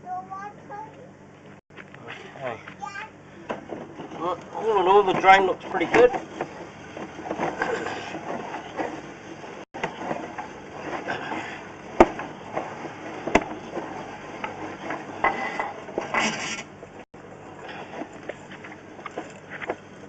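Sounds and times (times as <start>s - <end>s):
equipment knocking and clattering: 3.4s - 19.9s.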